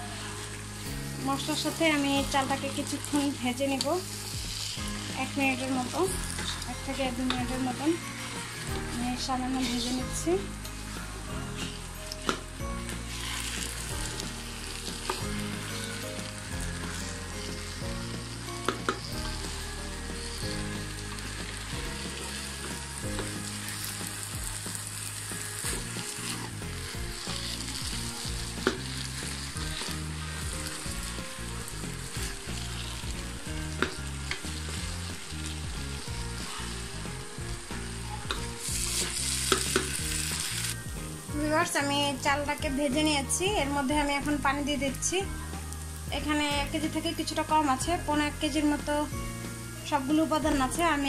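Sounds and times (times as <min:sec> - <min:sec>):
rice sizzling in a pan: 0:00.0 - 0:51.0
spatula scraping a pan: 0:00.1 - 0:41.2.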